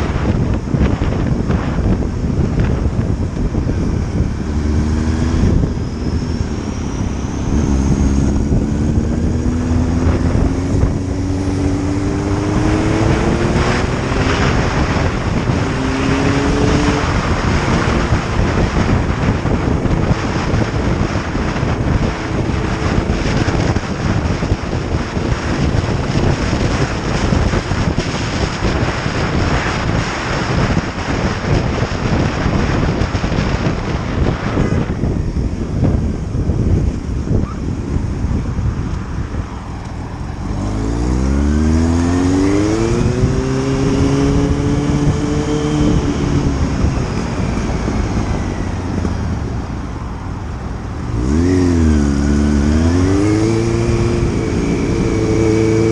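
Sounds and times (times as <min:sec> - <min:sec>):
motorcycle engine accelerating: 0:00.0 - 0:55.9
wind noise on microphone: 0:00.0 - 0:55.9.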